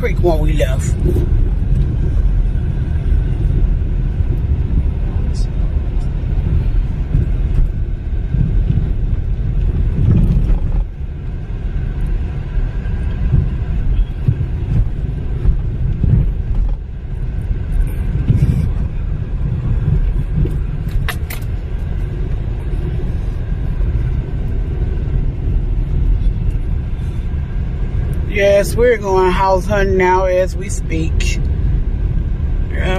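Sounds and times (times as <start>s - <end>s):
car rumbling over rough road: 0.0s - 32.9s.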